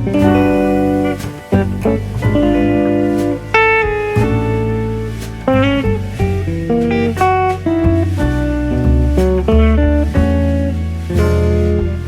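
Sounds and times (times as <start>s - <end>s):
plucked guitar melody: 0.0s - 12.0s
steady bass line: 0.0s - 12.0s.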